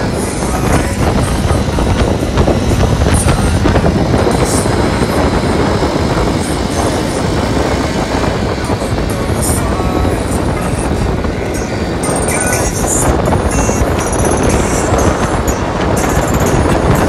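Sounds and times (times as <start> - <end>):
atv engines running: 0.0 - 17.0
rumble over microphone: 0.0 - 17.0.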